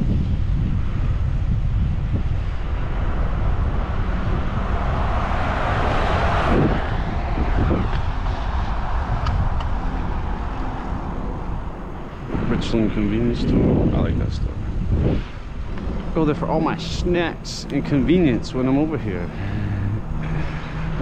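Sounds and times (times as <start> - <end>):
wind noise on microphone: 0.0 - 21.0
car passing: 0.7 - 21.0.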